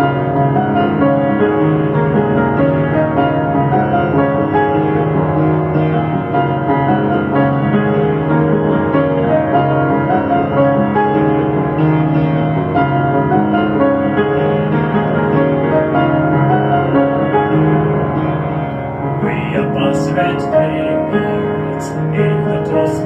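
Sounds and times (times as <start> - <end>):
piano background music: 0.0 - 23.0.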